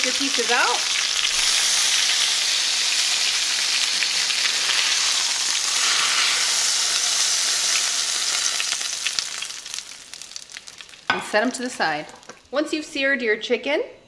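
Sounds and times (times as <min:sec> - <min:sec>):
chicken sizzling in a frying pan: 0:00.0 - 0:12.5.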